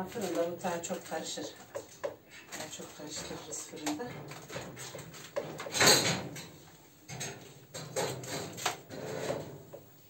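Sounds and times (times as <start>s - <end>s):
metal tray clatter: 0.0s - 9.6s
food rustling in metal tray: 0.0s - 9.8s.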